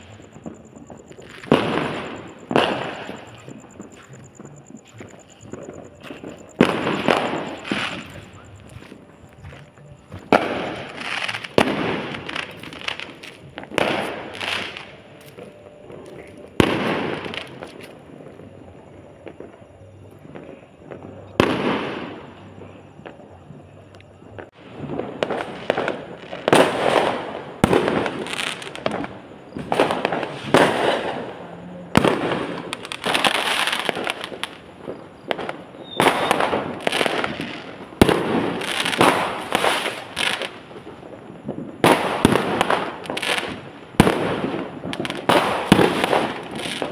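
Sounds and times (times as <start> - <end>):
fireworks bangs: 0.0 - 46.9.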